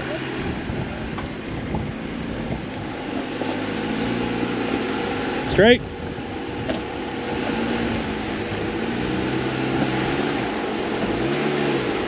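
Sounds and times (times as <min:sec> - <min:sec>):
truck engine at low revs: 0:00.0 - 0:12.0.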